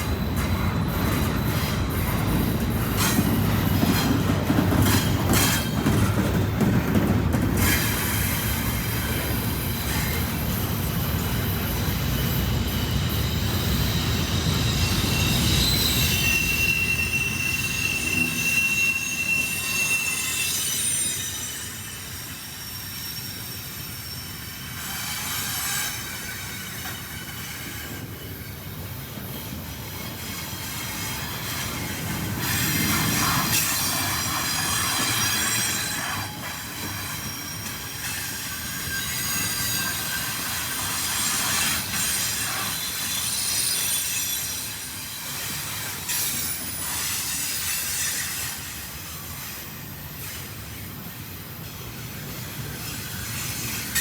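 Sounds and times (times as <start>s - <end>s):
high wheel squeal: 0.0s - 6.4s, 7.6s - 28.5s, 29.2s - 51.2s
train wheels rumbling on rail: 0.0s - 54.0s.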